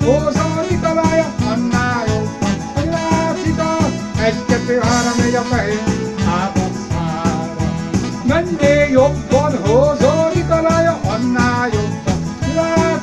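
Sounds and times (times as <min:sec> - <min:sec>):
man singing into a microphone: 0:00.0 - 0:13.0
music with a steady beat: 0:00.0 - 0:13.0.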